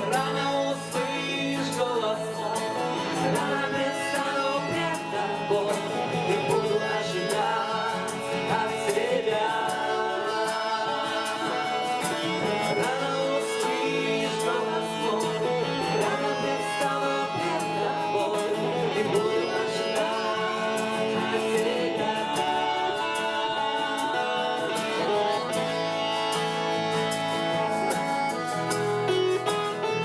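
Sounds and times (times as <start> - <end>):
guitar-led worship music: 0.0 - 30.0.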